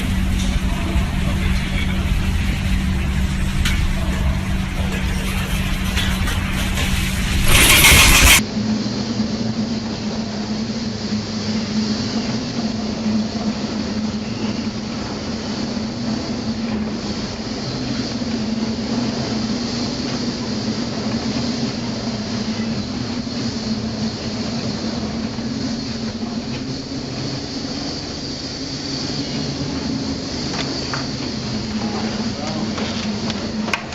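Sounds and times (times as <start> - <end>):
ship machinery drone: 0.0 - 33.9.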